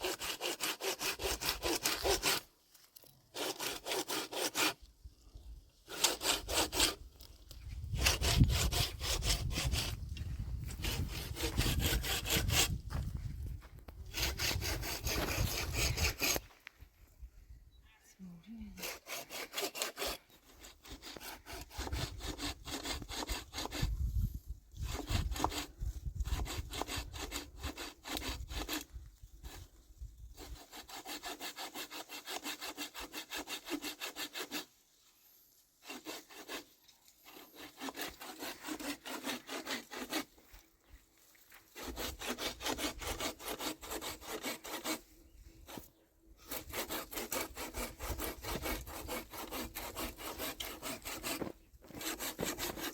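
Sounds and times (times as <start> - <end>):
hand saw cutting wood: 0.0 - 4.9, 5.8 - 13.0, 13.9 - 16.5, 18.8 - 40.7, 41.4 - 52.9.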